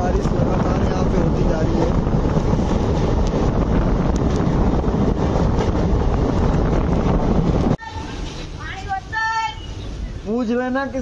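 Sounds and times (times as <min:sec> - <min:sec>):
wind buffeting the microphone: 0:00.0 - 0:10.3
passenger train rumbling on rails: 0:00.0 - 0:11.0.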